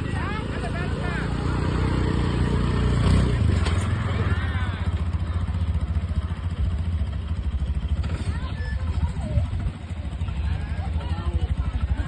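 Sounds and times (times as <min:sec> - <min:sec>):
engine running with fast pulsing: 0:00.0 - 0:12.0.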